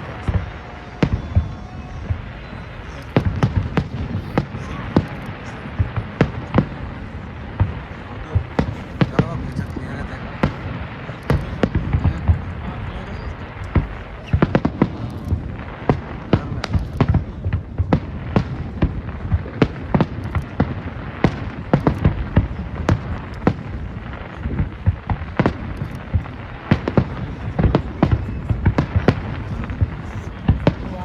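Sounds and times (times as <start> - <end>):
background rumble: 0.0 - 31.0
fireworks bangs and crackles: 0.0 - 31.0.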